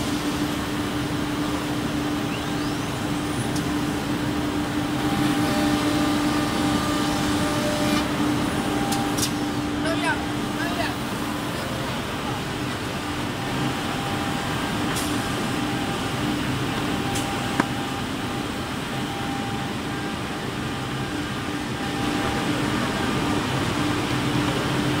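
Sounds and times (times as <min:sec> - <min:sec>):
belt conveyor running: 0:00.0 - 0:25.0
drilling machine humming: 0:02.8 - 0:24.8.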